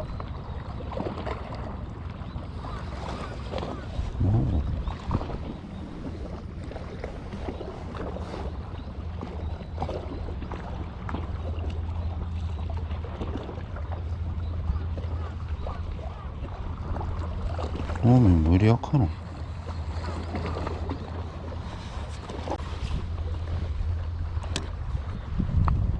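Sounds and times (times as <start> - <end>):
boat engine droning: 0.0 - 25.9.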